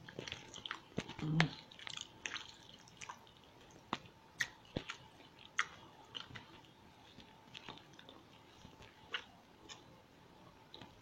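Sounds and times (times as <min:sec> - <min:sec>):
person chewing food: 0:00.0 - 0:11.0
lip smacks: 0:00.1 - 0:09.8.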